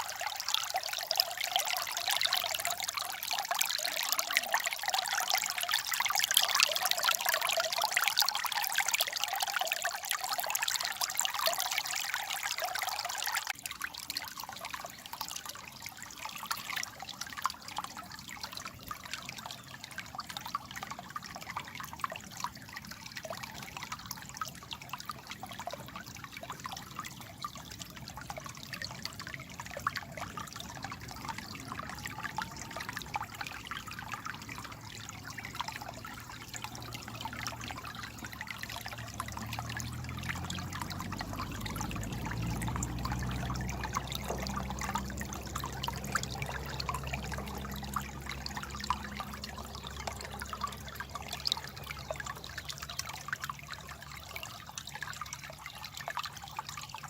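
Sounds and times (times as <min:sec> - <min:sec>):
water trickling and gurgling: 0:00.0 - 0:57.0.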